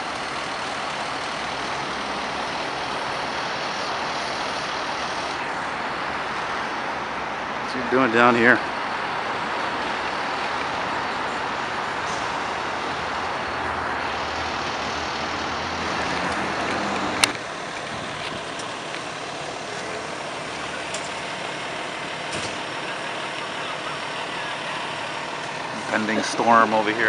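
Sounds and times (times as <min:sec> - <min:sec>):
city street traffic: 0:00.0 - 0:27.0
diesel engines running: 0:00.0 - 0:27.0.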